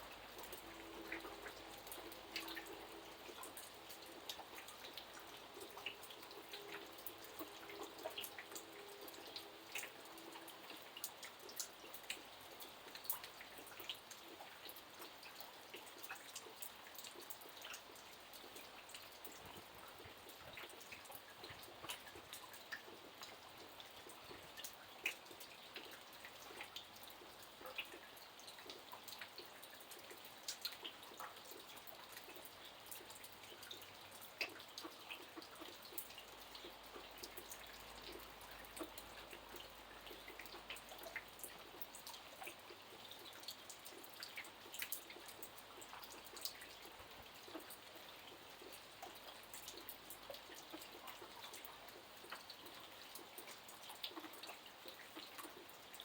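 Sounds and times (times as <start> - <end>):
faint steady hiss: 0.0 - 56.0
rain drops and drips: 0.0 - 56.0.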